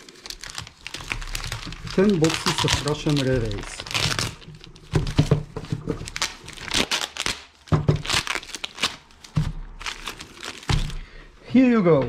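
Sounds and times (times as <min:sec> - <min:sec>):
packaging crinkling and ripping: 0:00.0 - 0:11.2.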